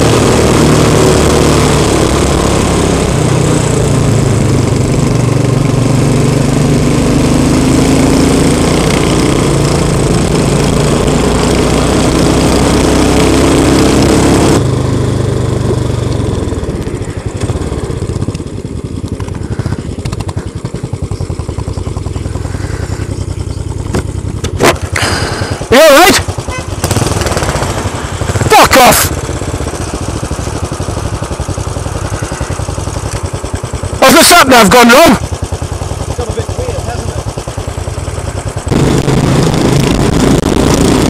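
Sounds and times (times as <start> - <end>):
motorcycle engine pulling: 0.0 - 41.0
motorcycle idling: 2.1 - 11.9, 14.6 - 41.0.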